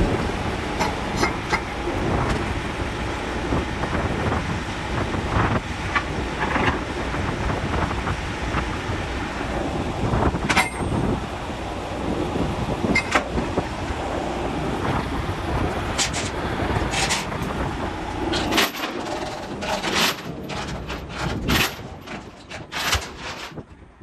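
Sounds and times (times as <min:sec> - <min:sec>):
bulldozer engine rumbling: 0:00.0 - 0:23.2
steel tracks clanking and squealing: 0:00.0 - 0:23.7.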